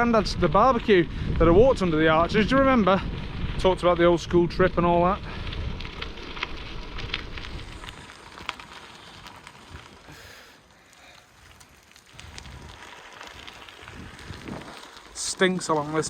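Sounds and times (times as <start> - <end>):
bike tyres rolling on gravel: 0.0 - 16.0
low wind rumble: 0.0 - 16.0.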